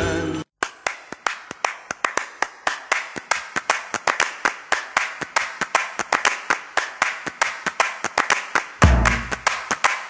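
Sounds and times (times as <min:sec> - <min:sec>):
rhythmic hand-clapping: 0:00.6 - 0:10.0.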